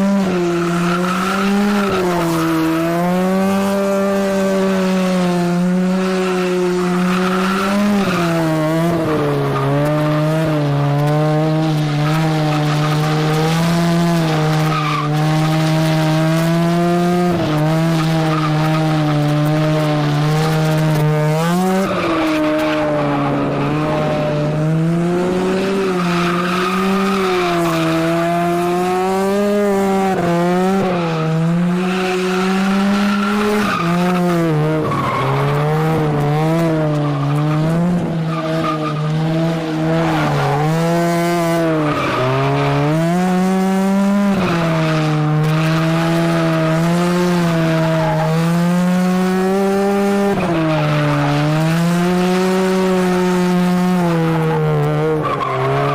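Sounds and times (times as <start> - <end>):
rotary engine revving high: 0.0 - 55.9
tyres squealing and skidding: 0.0 - 55.9.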